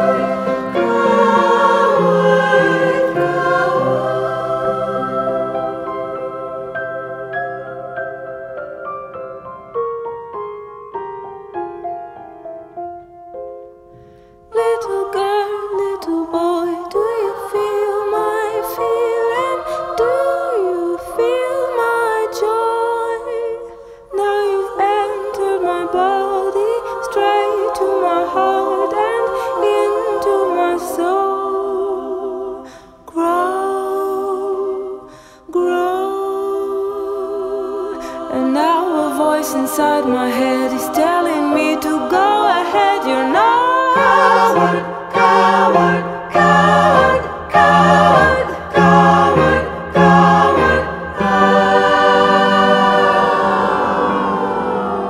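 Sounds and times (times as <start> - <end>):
voices humming in harmony: 0.0 - 8.8, 14.5 - 55.0
choir-like singing: 0.0 - 9.5, 14.5 - 55.0.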